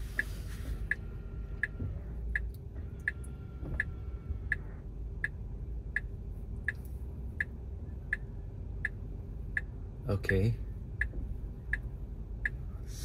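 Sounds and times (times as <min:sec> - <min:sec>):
low cabin hum: 0:00.0 - 0:13.0
turn signal ticking: 0:00.0 - 0:13.0.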